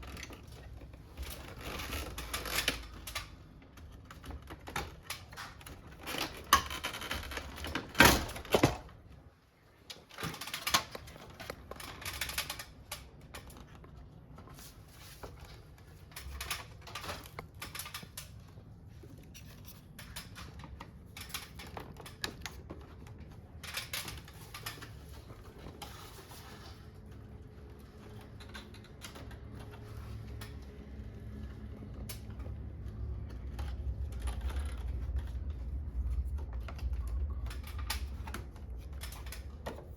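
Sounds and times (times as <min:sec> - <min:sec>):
air conditioner parts clicking and rattling: 0:00.0 - 0:39.9.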